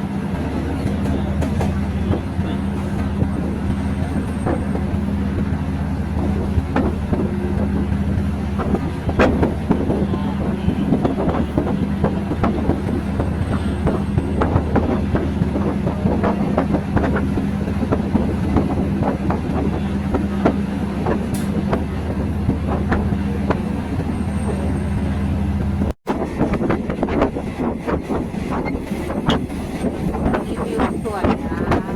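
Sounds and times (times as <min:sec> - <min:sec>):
train engine drone: 0:00.0 - 0:31.9
wheels clacking over rail joints: 0:00.0 - 0:31.9.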